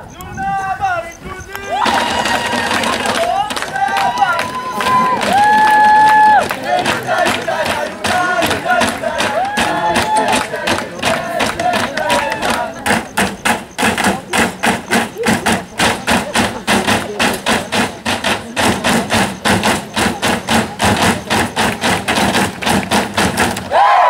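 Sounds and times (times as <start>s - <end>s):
voices: 0.0s - 23.0s
knocking on wooden tables: 1.8s - 23.7s.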